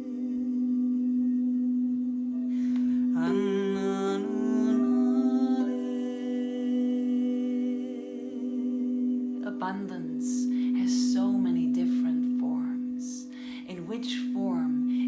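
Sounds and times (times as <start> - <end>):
person humming: 0.0 - 15.0
singing bowls ringing: 0.0 - 15.0.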